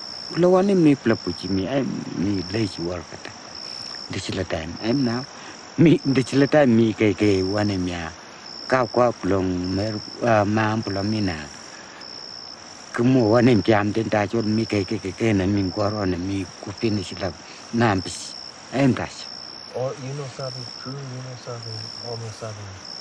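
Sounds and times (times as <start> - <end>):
insects chirping: 0.0 - 23.0
man talking: 0.3 - 3.4, 4.1 - 11.6, 12.9 - 22.9.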